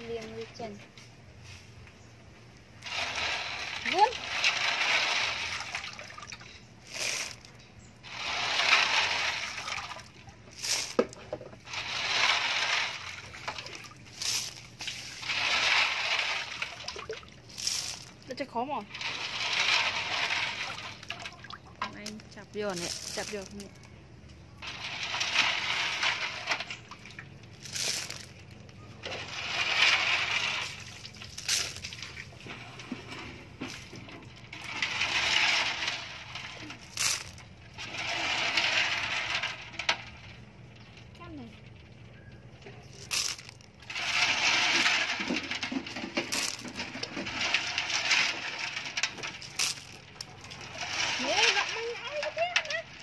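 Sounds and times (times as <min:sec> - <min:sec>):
wet shells clattering in a basket: 0:02.4 - 0:53.0.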